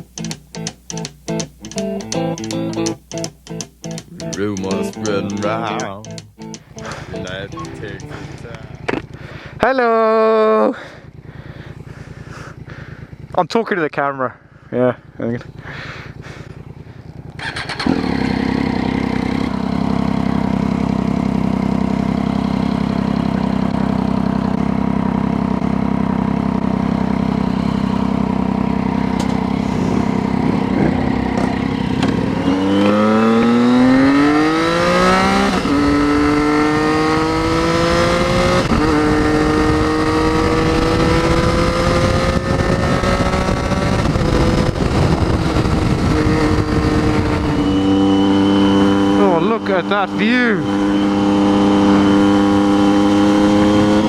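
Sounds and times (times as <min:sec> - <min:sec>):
motorcycle engine starting and idling: 0:00.0 - 0:47.5
motorcycle accelerating through gears: 0:03.9 - 0:13.4, 0:14.4 - 0:54.0.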